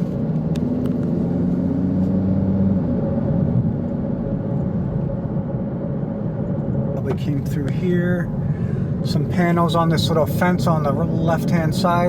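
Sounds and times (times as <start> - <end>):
car road and engine rumble: 0.0 - 12.0
low hum: 0.0 - 12.0.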